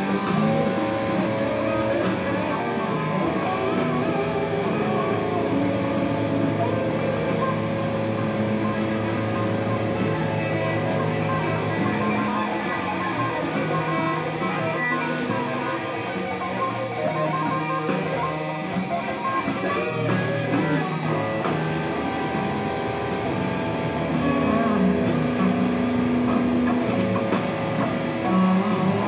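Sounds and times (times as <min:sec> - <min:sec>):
electric guitar playing blues: 0:00.0 - 0:29.0.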